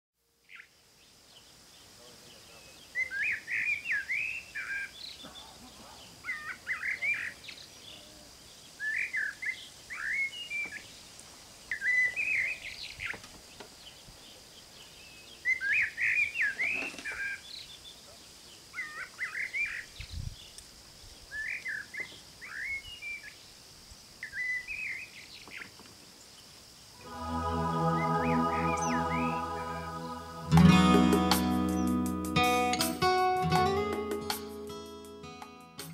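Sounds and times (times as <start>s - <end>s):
faint steady hiss: 0.2s - 33.3s.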